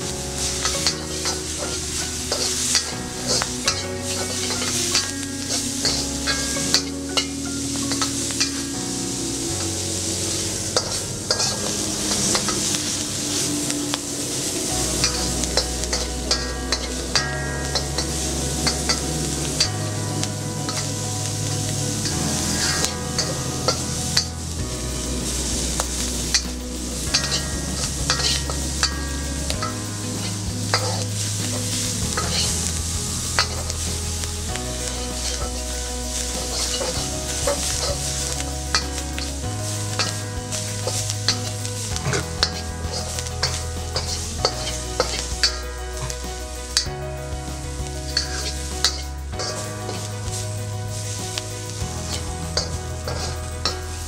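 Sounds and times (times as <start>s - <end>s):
ants sizzling in a wok: 0.0s - 54.0s
metal spatula scraping a wok: 0.0s - 54.0s.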